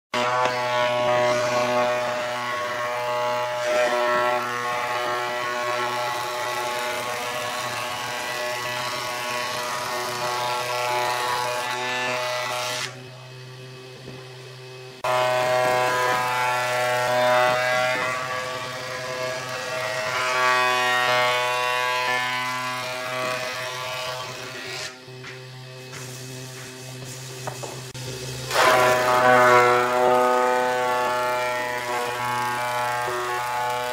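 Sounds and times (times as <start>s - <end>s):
planer knives cutting wood whine: 0.1s - 33.9s
planer motor hum: 0.2s - 33.9s.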